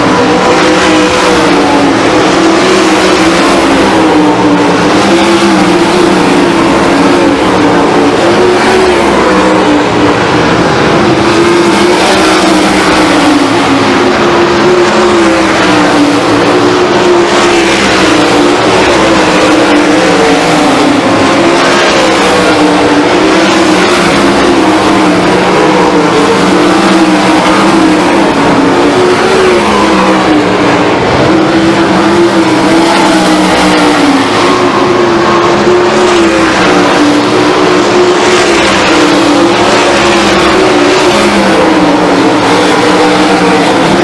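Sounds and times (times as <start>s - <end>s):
sprint car engines racing: 0.0s - 44.0s.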